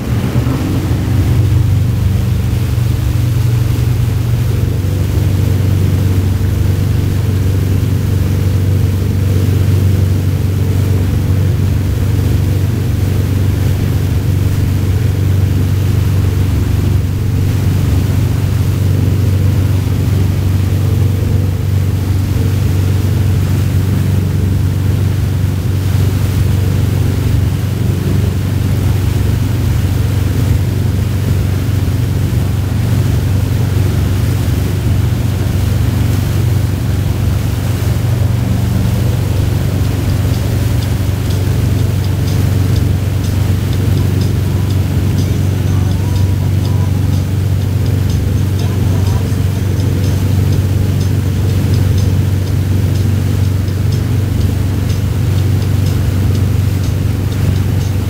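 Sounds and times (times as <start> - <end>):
boat engine droning: 0.0 - 58.0
churning water of wake: 0.0 - 58.0.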